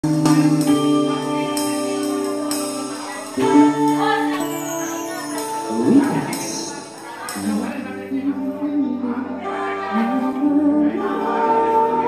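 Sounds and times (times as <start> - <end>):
keyboard and electric guitar chords: 0.0 - 12.0.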